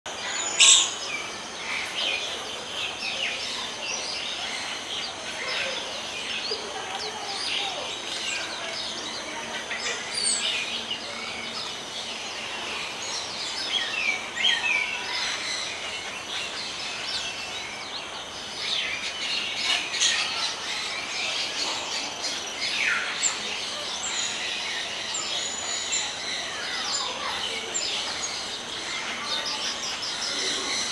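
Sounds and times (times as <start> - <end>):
small songbirds chirping: 0.1 - 30.9
steady background hiss: 0.1 - 30.9.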